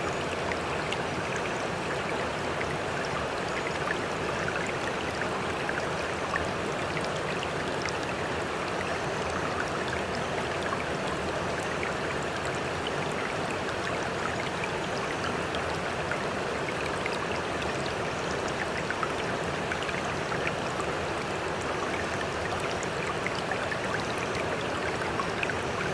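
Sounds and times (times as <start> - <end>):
water splashes and drips: 0.1 - 25.9.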